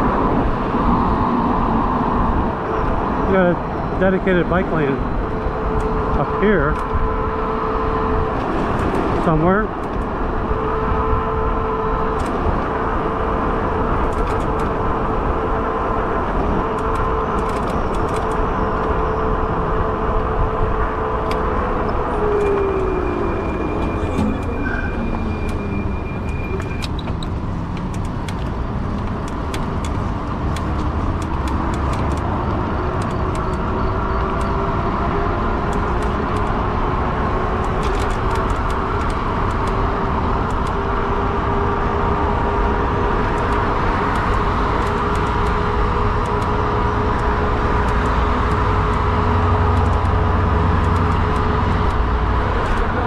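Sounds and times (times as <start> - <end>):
wind and tyre rumble: 0.0 - 53.0.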